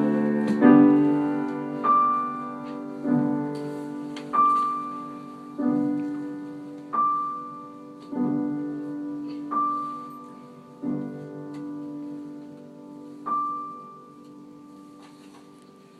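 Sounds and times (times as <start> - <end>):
slow piano music: 0.0 - 15.9.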